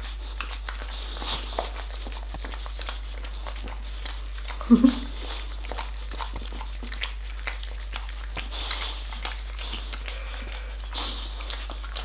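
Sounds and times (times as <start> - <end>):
dog licking and slurping: 0.0 - 12.0.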